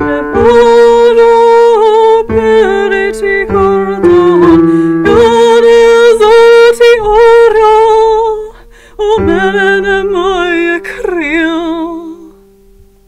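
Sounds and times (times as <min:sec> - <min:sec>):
woman singing wordless notes: 0:00.0 - 0:12.6.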